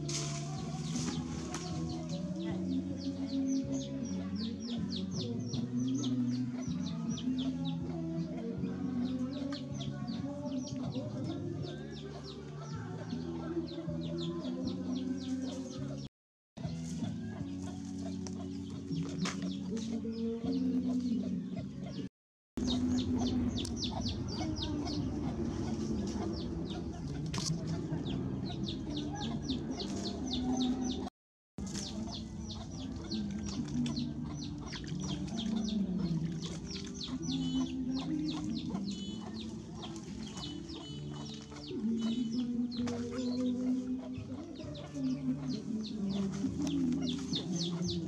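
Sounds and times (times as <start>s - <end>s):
chickens clucking: 0.0s - 48.0s
small birds chirping: 0.0s - 48.0s.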